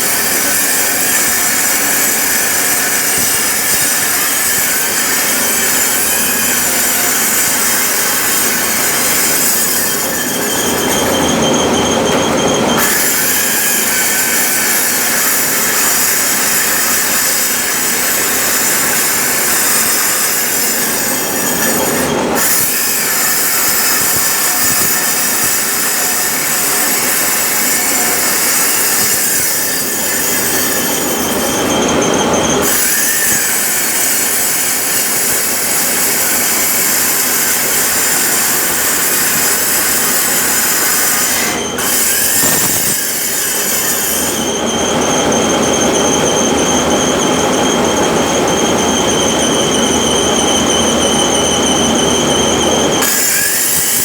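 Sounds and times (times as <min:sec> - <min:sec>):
power tool cutting steel: 0:00.0 - 0:54.0.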